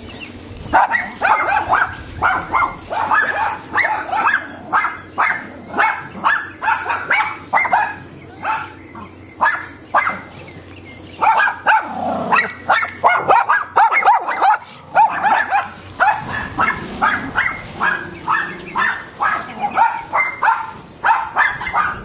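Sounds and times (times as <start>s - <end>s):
dogs barking rapidly: 0.0s - 22.0s.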